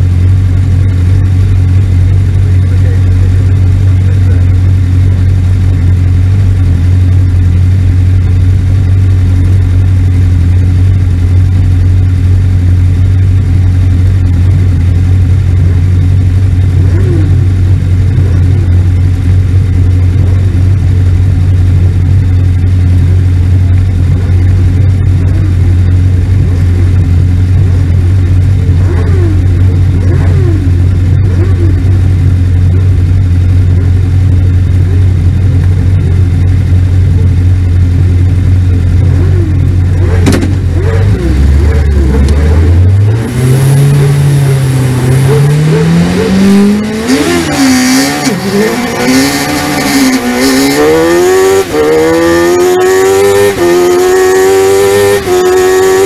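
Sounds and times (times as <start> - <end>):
race car engine idling: 0.0 - 56.0.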